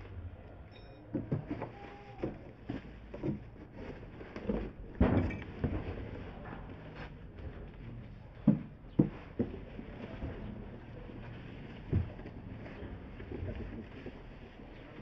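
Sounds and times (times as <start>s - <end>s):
cardboard and foam bumps and rustles: 1.1s - 15.0s.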